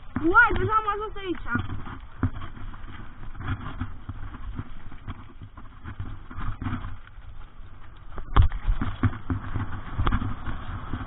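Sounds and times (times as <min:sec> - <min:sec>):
mountain bike rattling over rough ground: 0:00.0 - 0:11.0.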